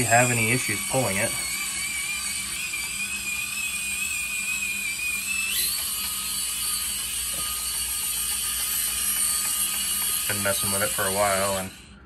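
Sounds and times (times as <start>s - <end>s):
toy car motor whine: 0.0s - 12.0s.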